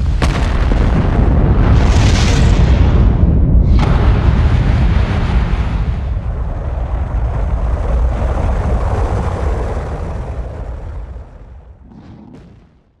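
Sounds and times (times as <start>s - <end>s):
rocket launch roar: 1.7s - 13.0s.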